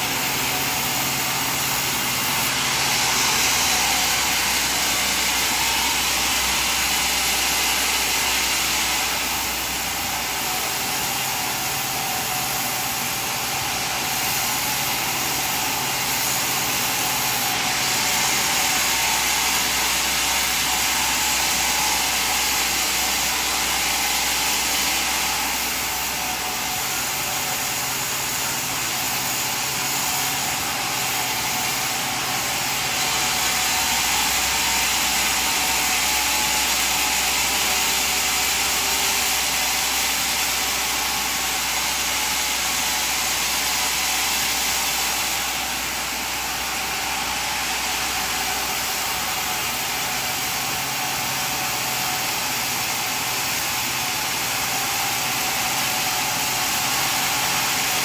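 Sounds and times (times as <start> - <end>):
sawmill saw cutting timber: 0.0 - 58.0.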